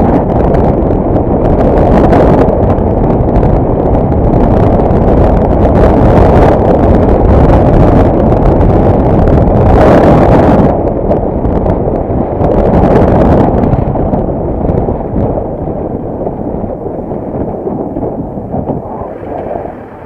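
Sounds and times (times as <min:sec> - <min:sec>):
motorcycle rumble: 0:00.0 - 0:20.0
wind buffeting microphone: 0:00.0 - 0:20.0.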